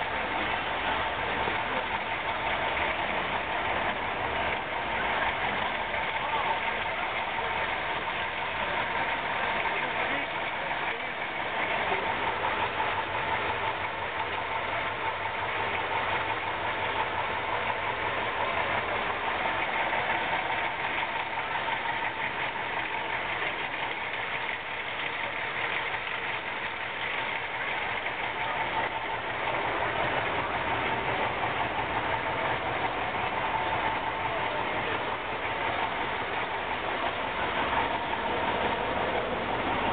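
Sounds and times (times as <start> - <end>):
constant engine whine: 0.0 - 39.9
diesel truck engine running: 0.0 - 39.9.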